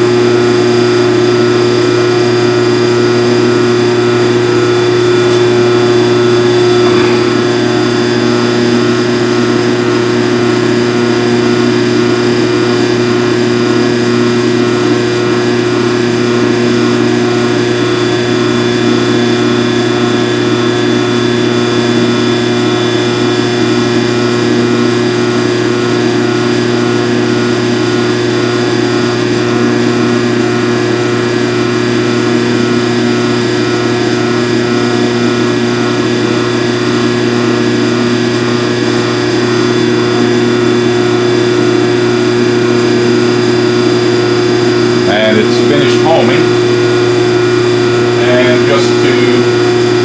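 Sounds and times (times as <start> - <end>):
phase converter electrical hum: 0.0 - 50.0.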